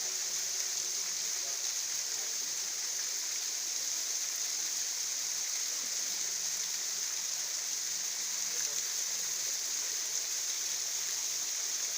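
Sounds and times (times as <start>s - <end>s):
water fountain splashing: 0.0s - 11.9s.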